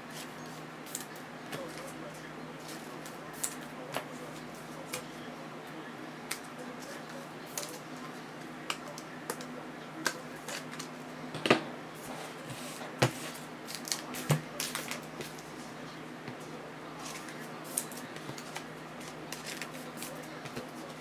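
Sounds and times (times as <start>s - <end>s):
cards handled with clicks and rustles: 0.1s - 5.2s, 6.2s - 11.0s, 12.0s - 21.0s.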